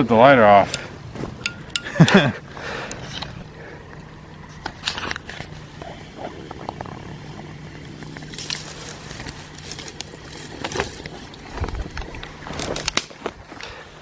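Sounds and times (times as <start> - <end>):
low steady hum: 0.5 - 13.5.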